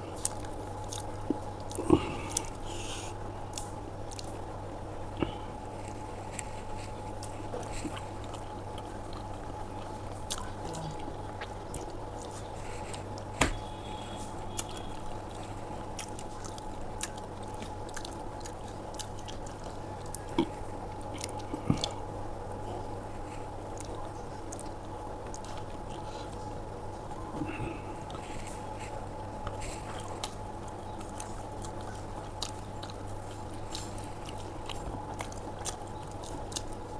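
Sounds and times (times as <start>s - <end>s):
person chewing food: 0.0s - 36.9s
steady low hum: 0.0s - 36.9s.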